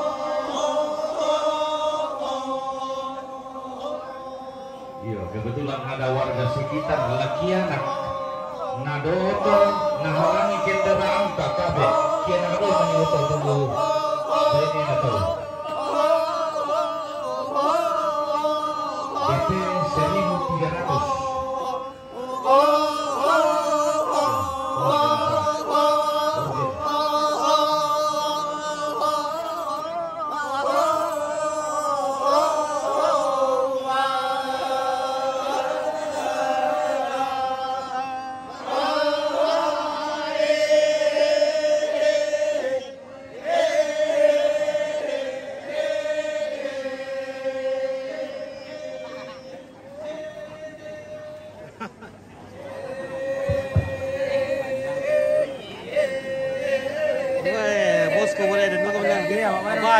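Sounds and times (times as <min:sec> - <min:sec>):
group of voices chanting: 0:00.0 - 0:51.0.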